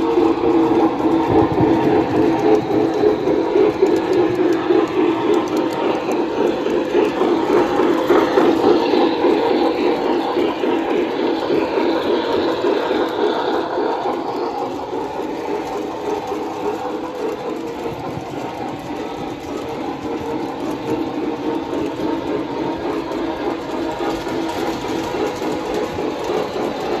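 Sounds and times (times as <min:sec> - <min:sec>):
model train motors whirring: 0:00.0 - 0:27.0
wheels rattling on rails: 0:00.0 - 0:27.0.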